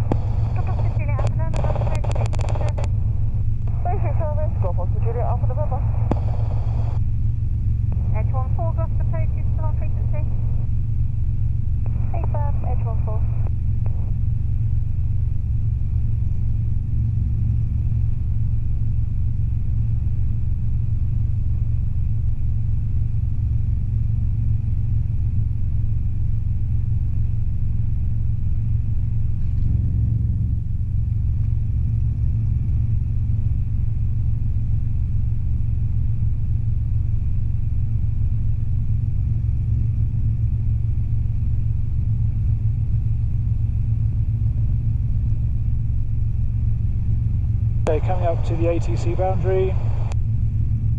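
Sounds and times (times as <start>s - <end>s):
helicopter cabin drone: 0.0s - 50.9s.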